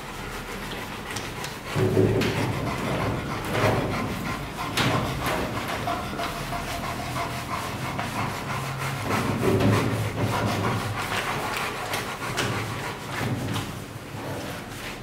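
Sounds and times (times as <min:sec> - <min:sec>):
dog panting: 0:00.0 - 0:13.7.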